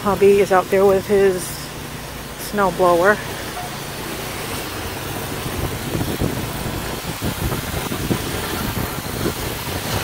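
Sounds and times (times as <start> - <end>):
snow blower engine running: 0.0 - 10.0.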